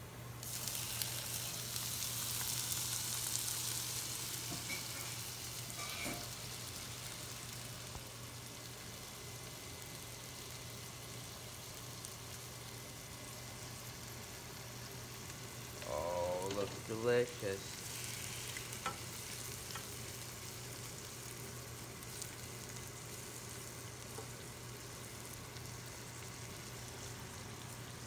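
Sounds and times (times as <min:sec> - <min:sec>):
clams sizzling in a saucepan: 0:00.4 - 0:28.0.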